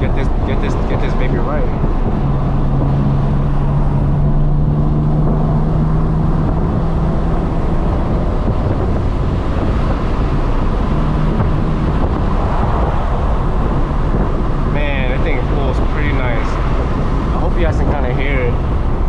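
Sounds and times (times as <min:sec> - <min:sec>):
car engine running: 0:00.0 - 0:19.0
road and wind noise: 0:00.0 - 0:19.0.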